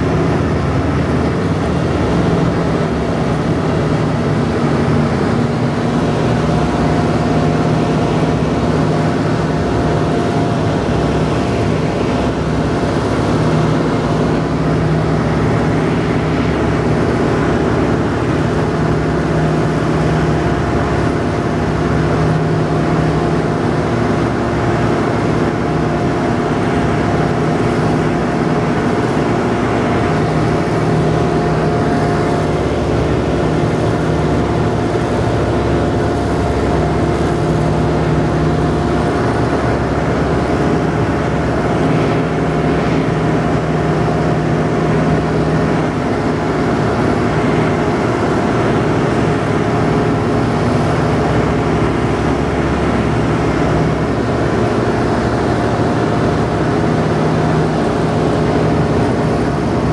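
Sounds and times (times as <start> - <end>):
radial aircraft engines droning: 0.0 - 59.9.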